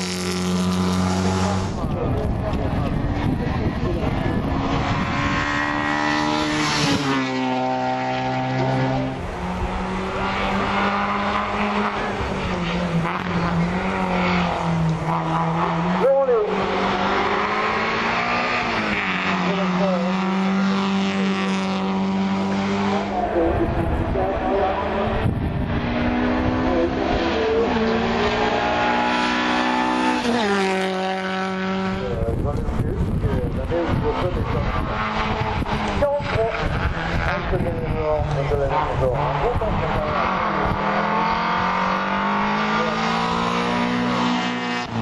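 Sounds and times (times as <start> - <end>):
high-revving engine: 0.0 - 45.0
racing car engine at full throttle: 0.0 - 45.0.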